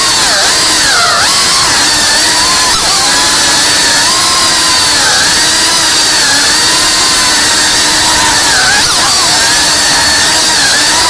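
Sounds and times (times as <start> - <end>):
drone motors and propellers whining: 0.0 - 11.0.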